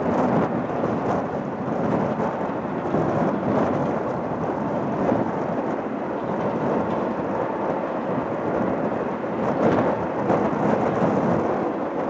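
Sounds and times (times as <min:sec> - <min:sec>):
jet airliner engines: 0:00.0 - 0:12.0.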